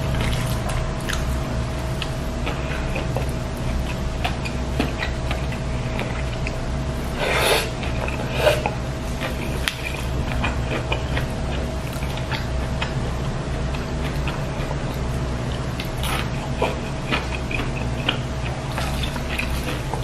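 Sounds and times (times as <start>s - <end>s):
chewing and mouth noises: 0.0s - 6.6s, 7.7s - 20.0s
background hum: 0.0s - 20.0s.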